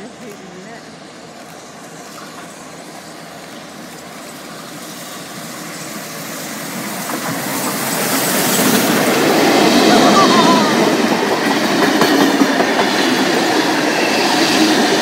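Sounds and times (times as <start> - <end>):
approaching locomotives hauling train: 0.0 - 15.0.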